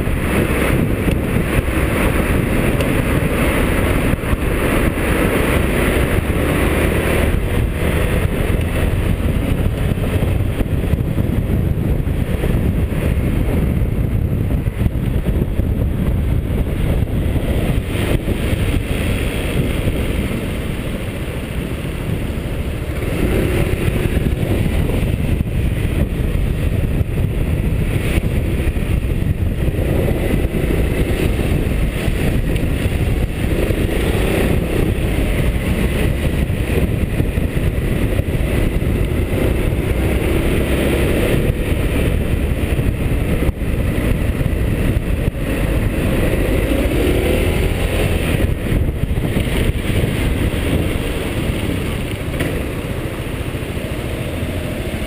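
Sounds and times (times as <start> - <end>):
scooter engine revving: 0.0 - 55.0
wind and road noise: 0.0 - 55.0.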